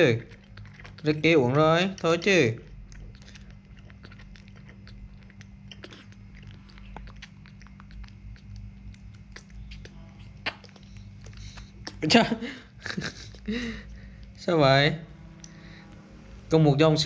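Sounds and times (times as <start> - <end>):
wet sucking clicks and smacks: 0.0 - 14.4
steady low hum: 0.0 - 17.0.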